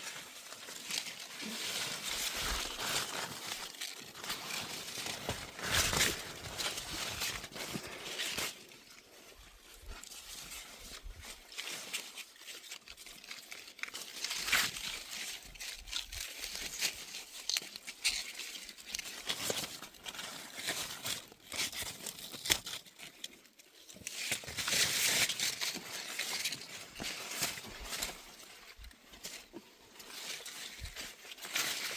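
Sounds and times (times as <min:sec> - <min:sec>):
rustling and crinkling: 0:00.0 - 0:31.9.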